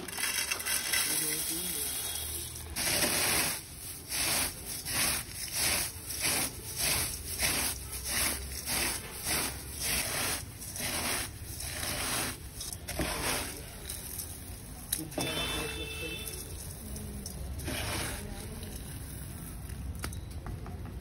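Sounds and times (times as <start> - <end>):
rhythmic scraping strokes: 0.2 - 19.4.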